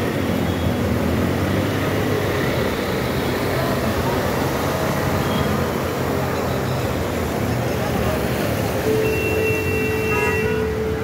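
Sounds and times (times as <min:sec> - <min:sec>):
vehicles wading through floodwater: 0:00.0 - 0:11.0.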